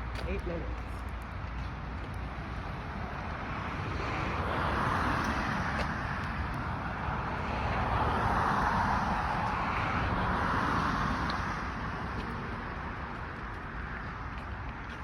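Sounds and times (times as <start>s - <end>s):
low traffic rumble: 0.0s - 15.0s
passing cars tyre noise: 1.2s - 15.0s.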